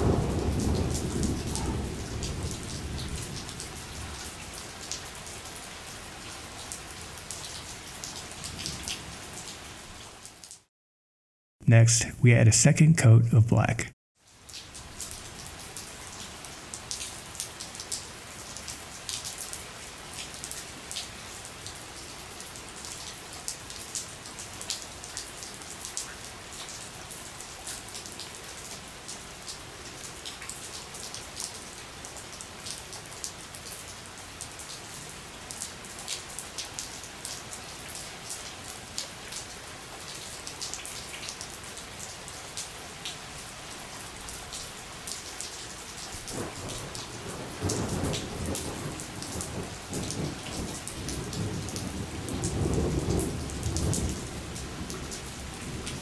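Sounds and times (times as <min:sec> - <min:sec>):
rain pattering: 0:00.0 - 0:10.7, 0:13.6 - 0:56.0.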